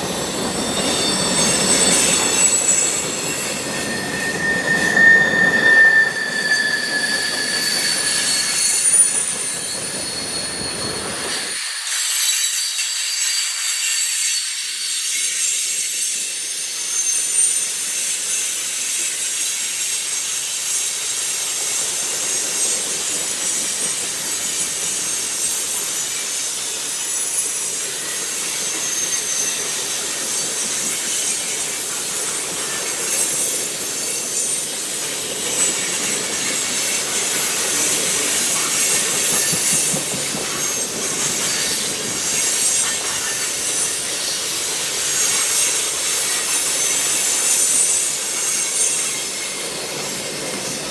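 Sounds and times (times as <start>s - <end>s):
hissing rail noise: 0.0s - 50.9s
train wheels squealing: 0.0s - 50.9s.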